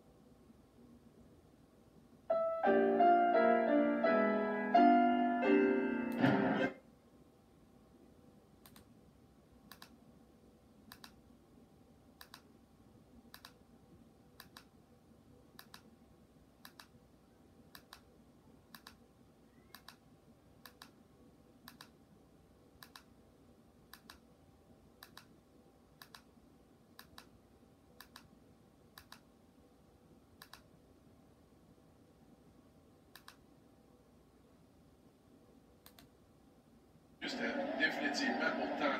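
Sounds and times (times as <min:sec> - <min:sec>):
low room hum: 0:00.0 - 0:38.9.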